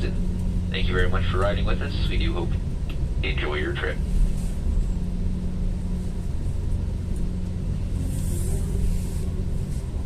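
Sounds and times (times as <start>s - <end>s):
faint hum: 0.0s - 10.0s
train coach rumble: 0.0s - 10.0s.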